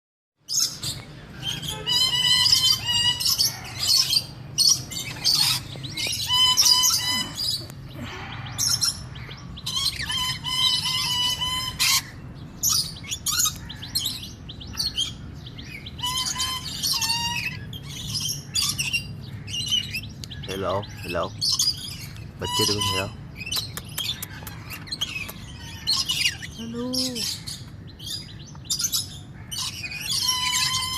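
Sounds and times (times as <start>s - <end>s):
lorikeets screeching: 0.5s - 30.9s.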